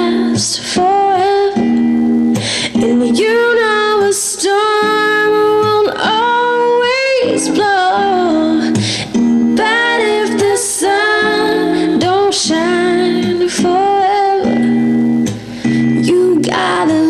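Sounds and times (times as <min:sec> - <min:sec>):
woman singing with vibrato: 0:00.0 - 0:01.8, 0:02.6 - 0:17.0.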